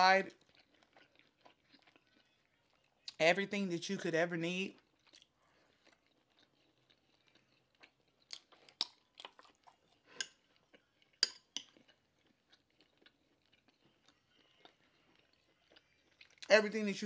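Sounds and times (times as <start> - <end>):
person chewing food: 0.3 - 3.2, 4.7 - 16.5.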